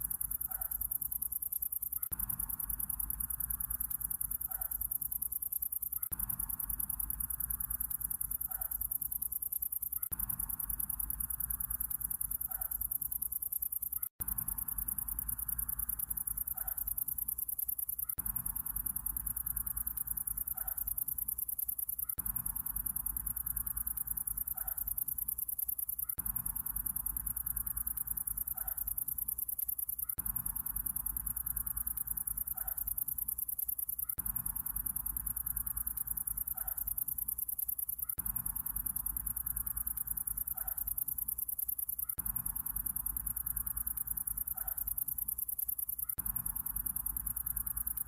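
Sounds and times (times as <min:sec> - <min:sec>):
crickets chirping: 0:00.0 - 0:48.0.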